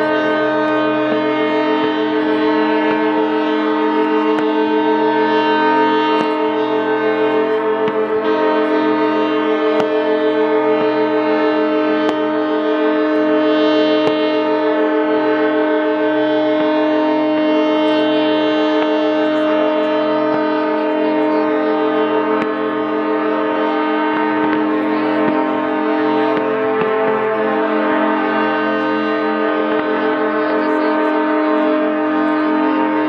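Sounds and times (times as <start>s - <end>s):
fireworks cracking: 0.0s - 33.0s
ship horns blowing: 0.0s - 33.0s.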